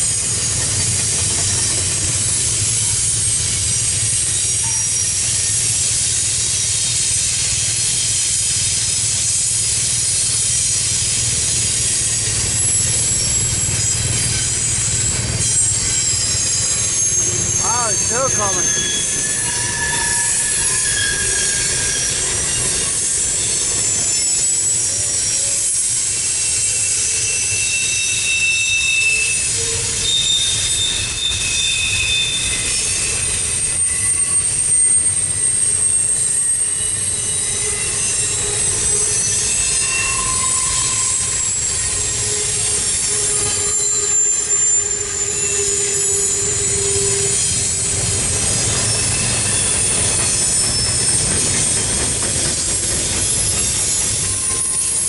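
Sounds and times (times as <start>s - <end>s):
freight wheels rumbling on rail joints: 0.0s - 55.0s
high-pitched wheel squeals: 0.0s - 55.0s
lower wheel squealing tone: 0.0s - 55.0s.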